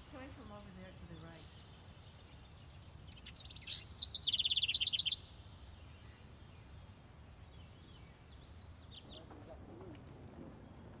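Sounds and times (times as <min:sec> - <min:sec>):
songbird singing with trill: 0:00.4 - 0:09.3.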